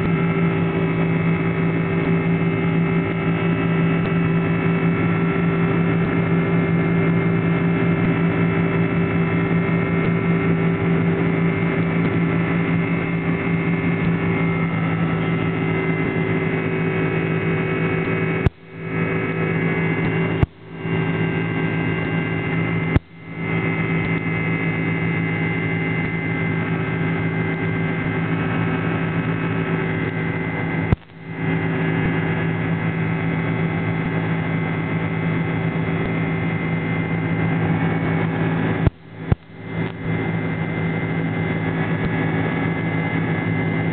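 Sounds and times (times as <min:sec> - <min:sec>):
jet engine cabin drone: 0:00.0 - 0:43.9.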